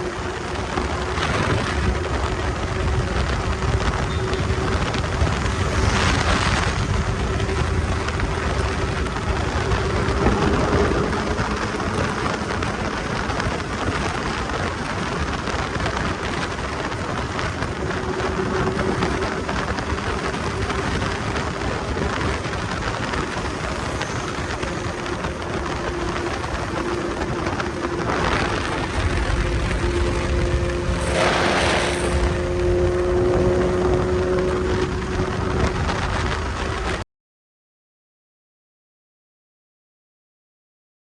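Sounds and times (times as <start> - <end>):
loud rush of wind: 0.0 - 37.0
motorcycle engine cruising: 0.0 - 37.0.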